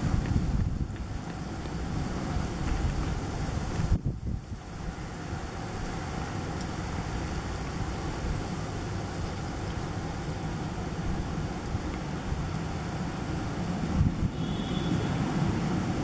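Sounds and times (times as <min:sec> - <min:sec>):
outdoor background rumble: 0:00.0 - 0:16.0.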